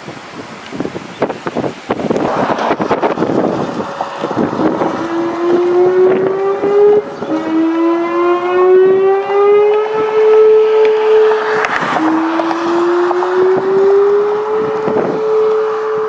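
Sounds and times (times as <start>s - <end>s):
wind on microphone: 0.0s - 16.0s
vehicle engine accelerating: 1.9s - 16.0s.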